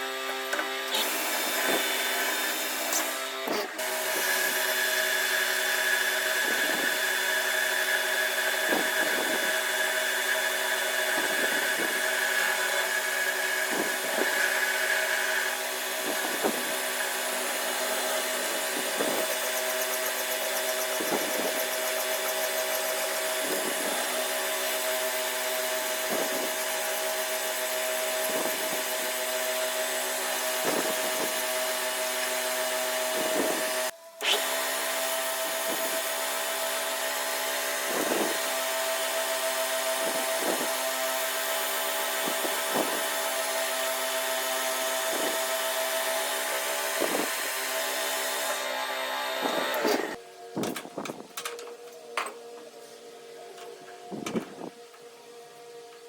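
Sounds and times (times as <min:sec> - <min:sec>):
pulsing workshop machinery: 0:00.0 - 0:52.3
high machine whine: 0:00.0 - 0:56.0.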